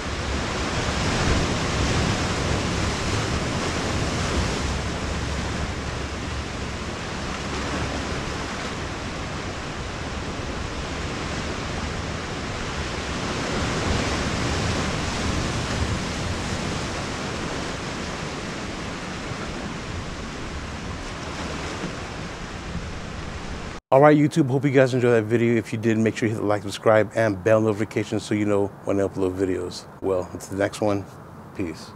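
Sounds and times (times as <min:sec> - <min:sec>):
ocean surf over rocks: 0:00.0 - 0:27.8.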